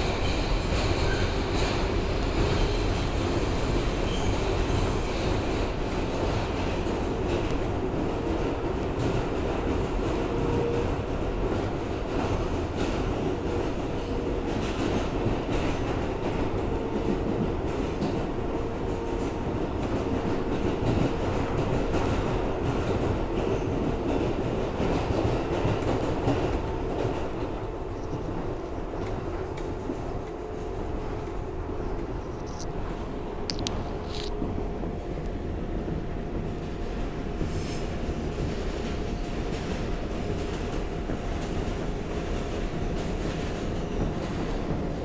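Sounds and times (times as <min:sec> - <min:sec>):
subway train wheels rumbling: 0:00.0 - 0:45.0.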